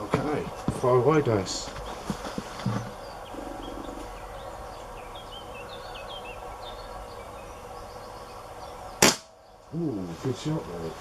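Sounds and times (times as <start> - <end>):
low background noise: 0.0 - 11.0
small birds chirping: 0.0 - 11.0.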